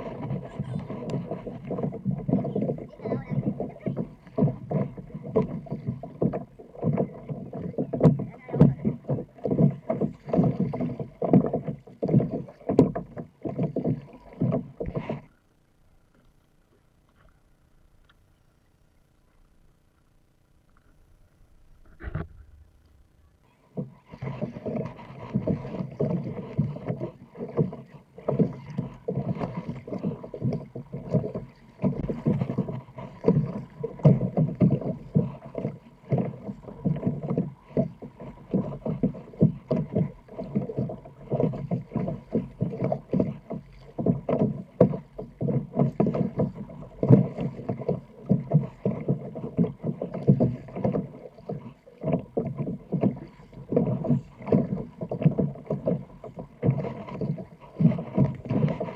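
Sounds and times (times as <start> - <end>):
water splashing around kayak: 0.0 - 18.3, 20.7 - 58.9
paddle blades dipping: 0.0 - 58.9.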